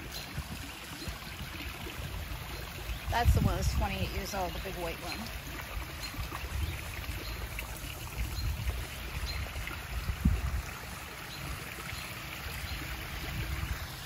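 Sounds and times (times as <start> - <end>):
low uneven rumble: 0.0 - 14.0
waterfall splashing into pond: 0.0 - 14.0.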